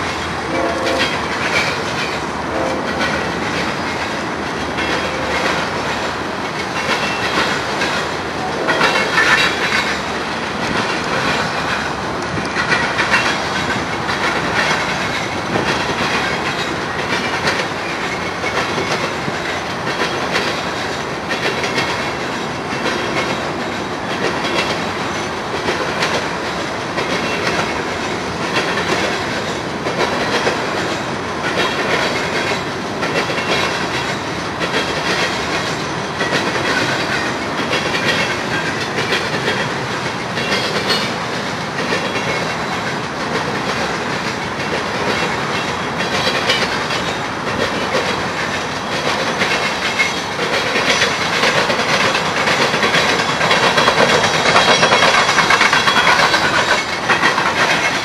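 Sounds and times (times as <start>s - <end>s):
freight train cars rolling: 0.0s - 58.0s
wheels clicking over rail joints: 0.0s - 58.0s.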